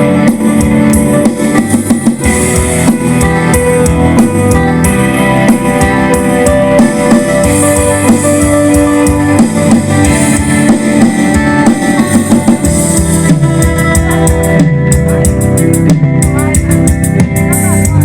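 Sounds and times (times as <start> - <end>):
drum kit beat: 0.0 - 18.0
guitar notes: 0.0 - 18.0
keyboard notes: 0.0 - 18.0.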